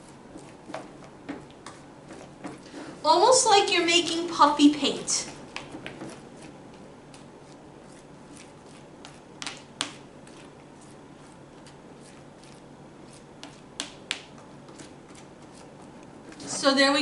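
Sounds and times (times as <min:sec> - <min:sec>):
quiet stirring in a bowl: 0:00.0 - 0:17.0.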